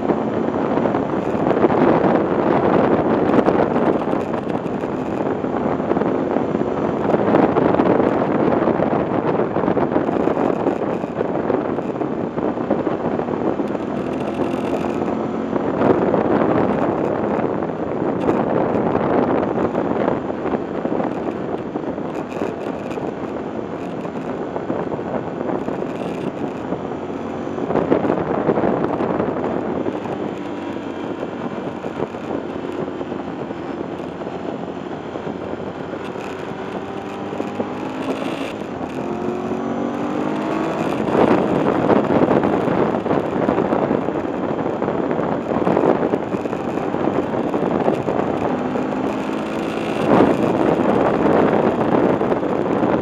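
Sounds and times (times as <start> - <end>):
motorcycle engine running: 0.0 - 53.0
wind buffeting microphone: 0.0 - 53.0.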